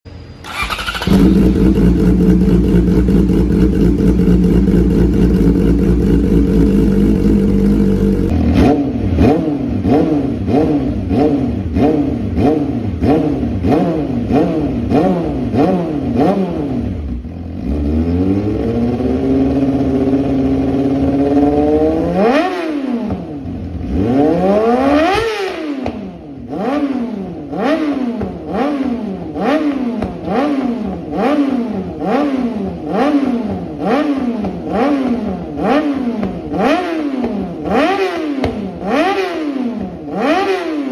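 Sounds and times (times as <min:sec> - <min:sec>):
motorcycle engine revving: 0:00.4 - 0:40.9.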